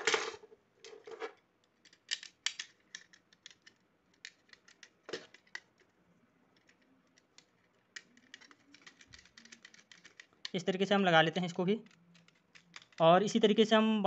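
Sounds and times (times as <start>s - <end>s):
plastic parts clicking: 0.8s - 5.9s, 6.5s - 13.7s.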